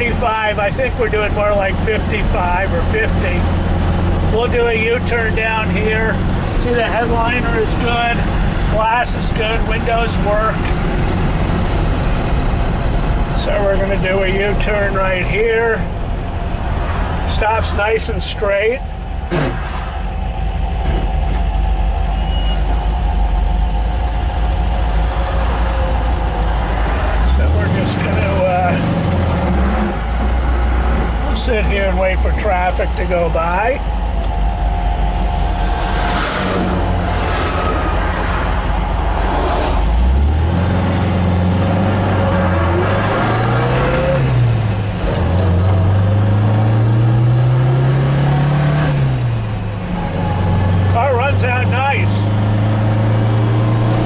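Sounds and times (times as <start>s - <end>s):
car engine running inside car: 0.0s - 54.0s.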